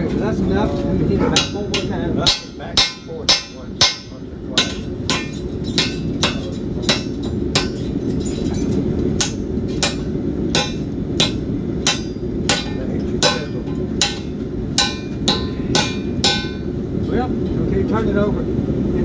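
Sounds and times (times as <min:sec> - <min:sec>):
hammer striking chisel on metal: 0:01.3 - 0:16.8.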